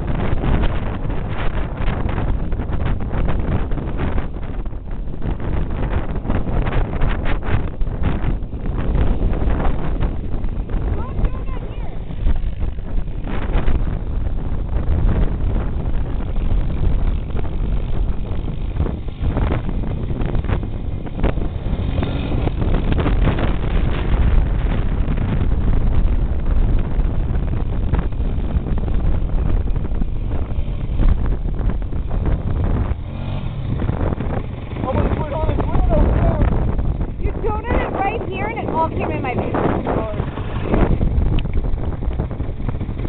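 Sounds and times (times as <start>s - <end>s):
atv engine running: 0.0s - 43.0s
wind buffeting microphone: 0.0s - 43.0s.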